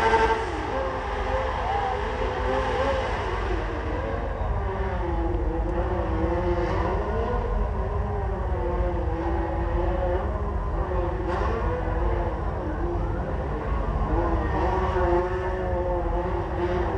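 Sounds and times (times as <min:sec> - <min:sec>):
motorcycle engines revving: 0:00.0 - 0:16.9.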